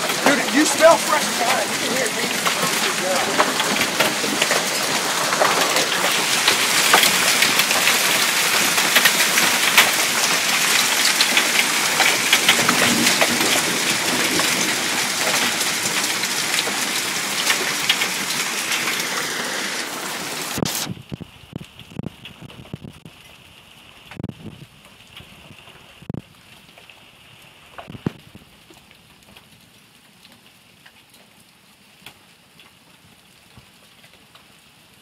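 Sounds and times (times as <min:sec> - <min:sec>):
hail pelting down: 0:00.0 - 0:35.0.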